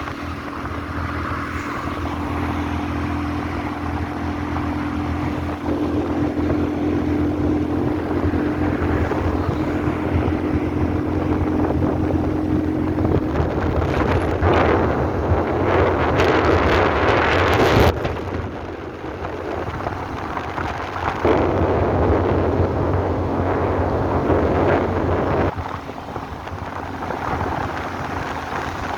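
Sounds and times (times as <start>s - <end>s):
wind gusting across microphone: 0.0s - 28.9s.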